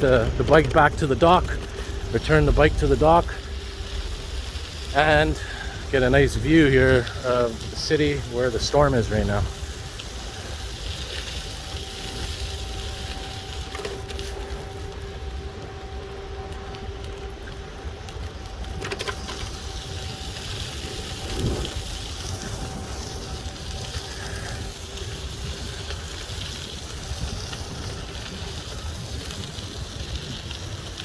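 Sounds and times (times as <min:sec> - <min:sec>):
faint steady hum: 0:00.0 - 0:30.8
outdoor rumble and hiss: 0:00.0 - 0:31.0.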